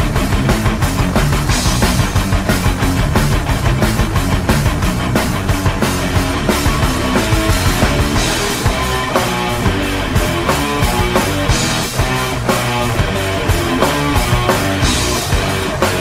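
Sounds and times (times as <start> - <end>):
music with fast beat: 0.0 - 16.0.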